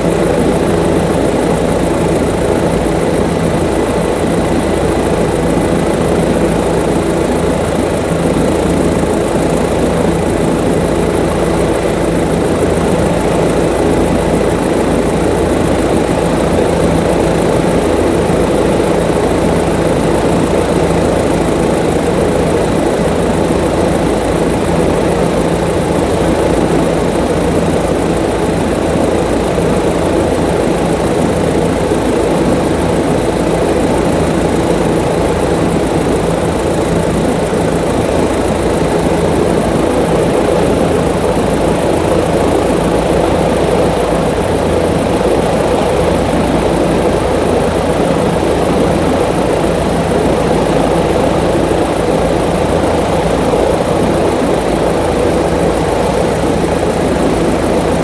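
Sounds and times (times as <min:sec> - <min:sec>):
aircraft engine hum: 0:00.0 - 0:58.0.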